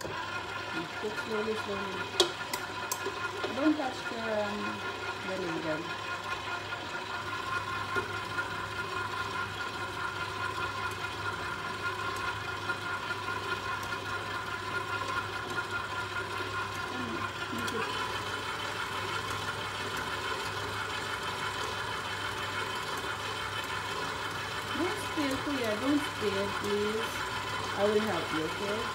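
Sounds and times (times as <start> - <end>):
stand mixer motor humming: 0.0 - 28.9.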